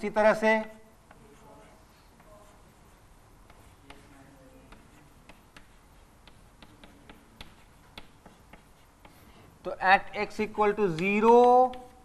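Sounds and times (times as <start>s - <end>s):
chalk tapping on blackboard: 0.1s - 12.0s.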